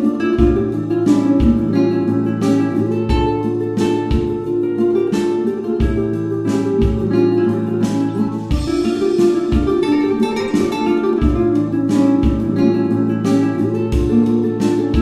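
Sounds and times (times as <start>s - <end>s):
plucked acoustic guitar: 0.0s - 15.0s
steady low beat: 0.0s - 15.0s.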